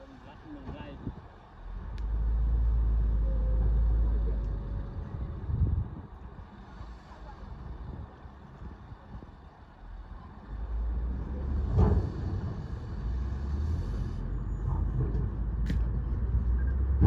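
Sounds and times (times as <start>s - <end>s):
bulldozer diesel engine rumbling: 0.0s - 17.0s.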